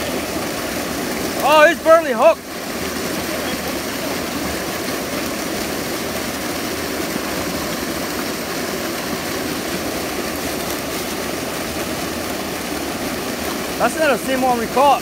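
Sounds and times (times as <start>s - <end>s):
stream water rushing over rocks: 0.0s - 15.0s.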